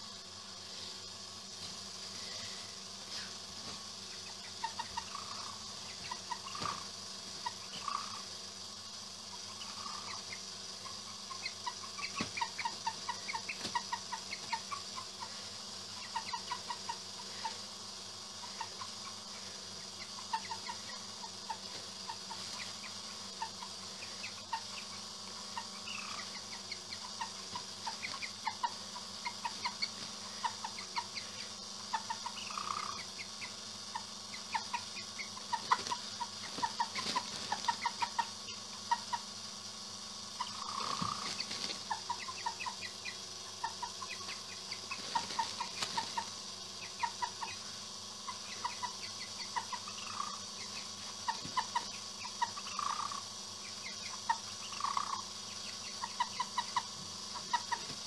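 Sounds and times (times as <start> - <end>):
hens clucking: 1.1 - 8.4, 9.2 - 58.0.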